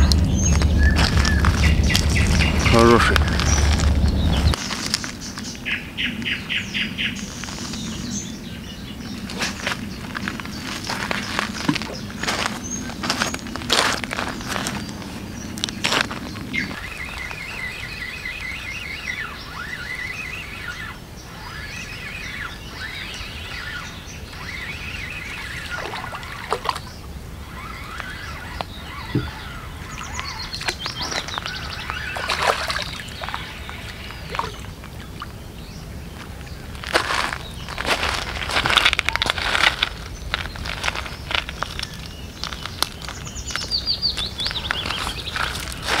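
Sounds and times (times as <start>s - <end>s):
songbirds singing: 0.0s - 46.0s.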